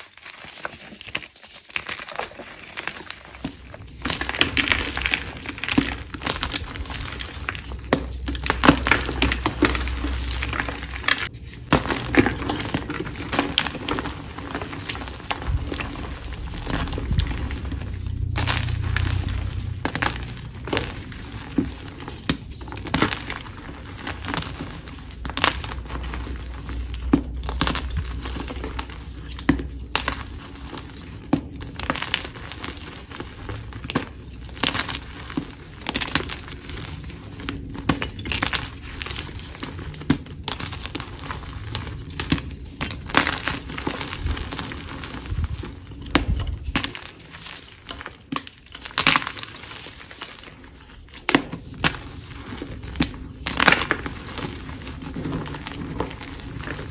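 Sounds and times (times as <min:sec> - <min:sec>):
chalk crunching and crumbling: 0:00.0 - 0:56.9
chalk pieces cracking: 0:00.0 - 0:56.9.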